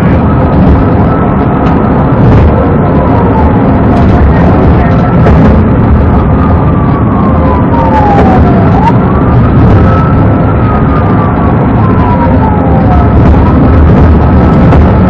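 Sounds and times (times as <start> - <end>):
police siren wailing: 0.0 - 15.0
vehicle and road noise: 0.0 - 15.0.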